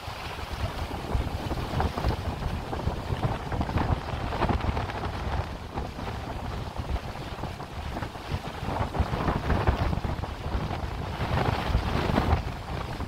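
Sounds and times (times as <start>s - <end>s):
choppy sea water rushing: 0.0s - 13.0s
wind buffeting microphone: 0.0s - 13.0s.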